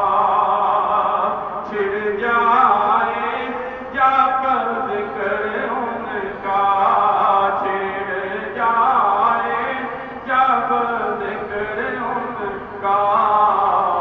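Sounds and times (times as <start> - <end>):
man singing devotional poem: 0.0 - 14.0.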